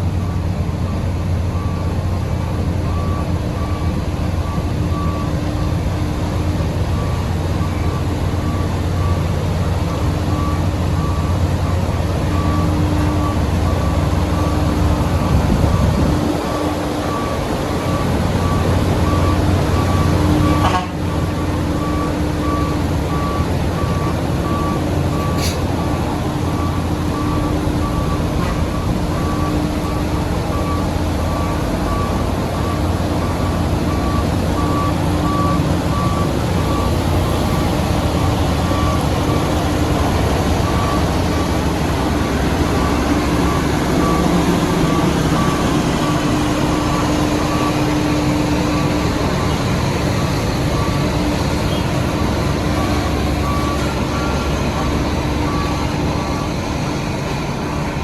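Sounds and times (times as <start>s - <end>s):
diesel construction machinery running: 0.0s - 58.0s
reversing alarm beeping: 0.1s - 5.8s, 6.4s - 58.0s.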